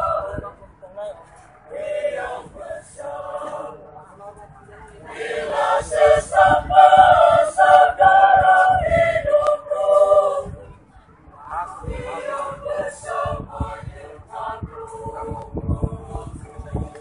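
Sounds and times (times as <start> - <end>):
mixed choir singing: 0.0 - 0.5, 1.7 - 3.9, 5.1 - 10.7, 11.5 - 17.0.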